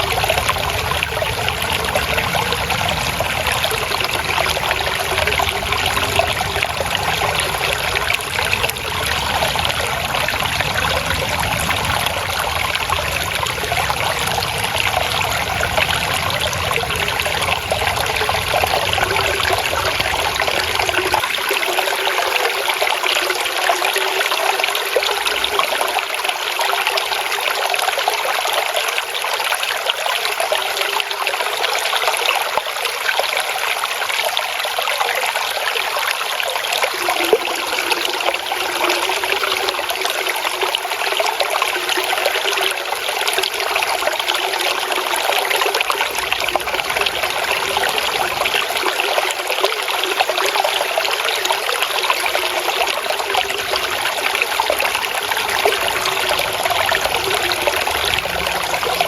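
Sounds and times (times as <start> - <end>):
water flowing over stones: 0.0 - 59.0.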